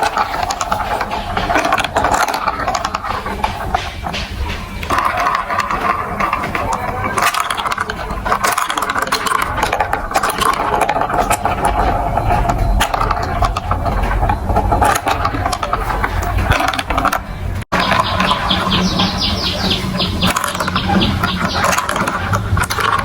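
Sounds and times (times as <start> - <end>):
marbles rattling through marble run: 0.0 - 23.0.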